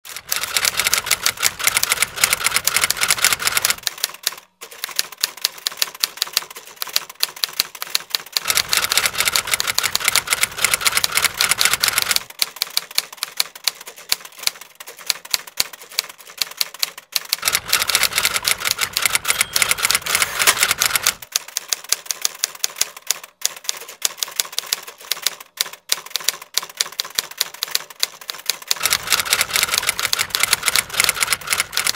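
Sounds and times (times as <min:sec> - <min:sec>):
rapid mechanical clicking: 0:00.1 - 0:31.9.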